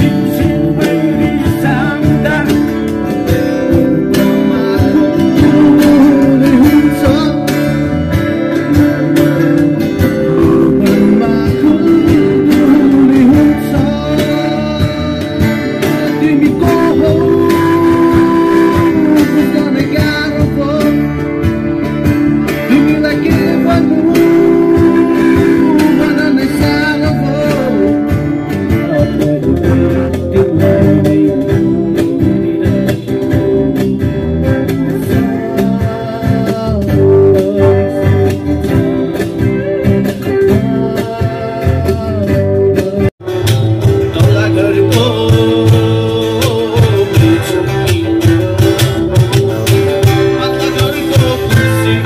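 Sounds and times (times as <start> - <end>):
man singing into microphone: 0.0 - 21.8, 22.4 - 52.0
acoustic and electric guitars: 0.0 - 52.0
percussion beat: 0.0 - 52.0.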